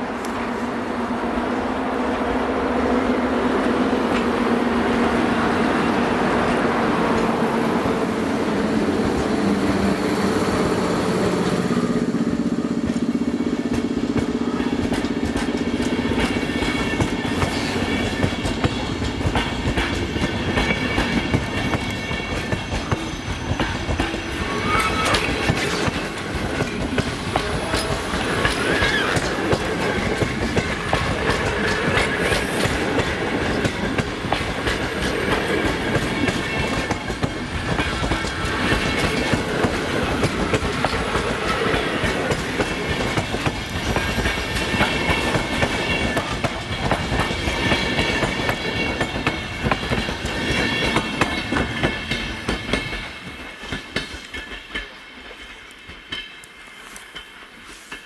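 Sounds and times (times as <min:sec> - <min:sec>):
electric locomotive hum: 0:00.0 - 0:57.8
train wheels clicking over rail joints: 0:08.5 - 0:58.0.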